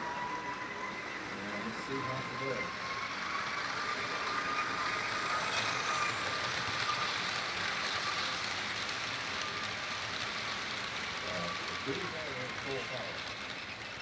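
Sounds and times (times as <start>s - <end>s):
model train rolling: 0.0s - 14.0s.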